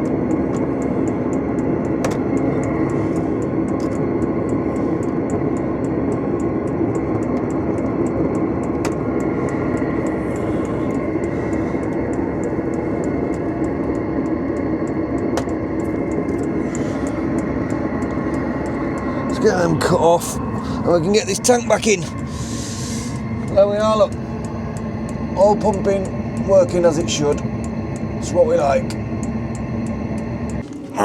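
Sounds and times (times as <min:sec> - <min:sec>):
fuel pump ticking: 0:00.0 - 0:30.7
diesel heater humming: 0:00.0 - 0:31.0.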